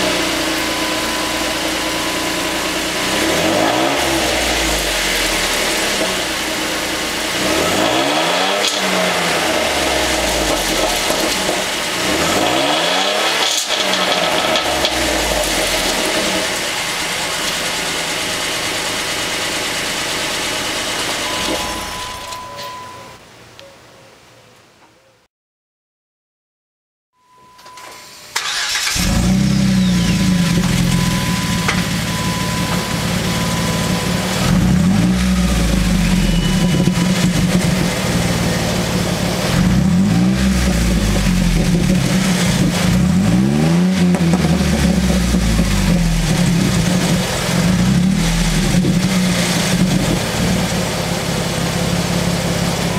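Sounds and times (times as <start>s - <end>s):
car engine starting and revving: 0.0s - 22.4s, 28.4s - 52.9s.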